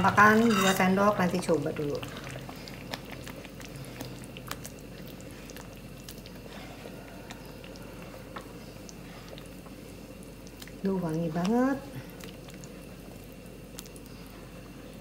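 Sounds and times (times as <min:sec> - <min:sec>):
thick sauce squelching: 0:01.8 - 0:14.4.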